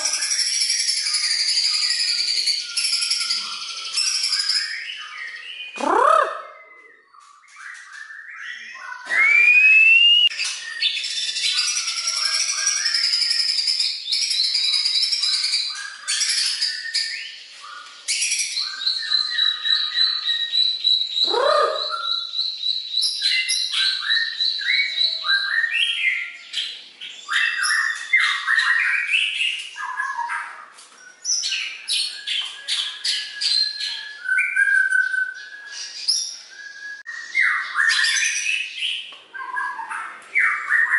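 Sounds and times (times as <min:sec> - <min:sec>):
songbird singing varied whistled song: 0:00.0 - 0:40.9.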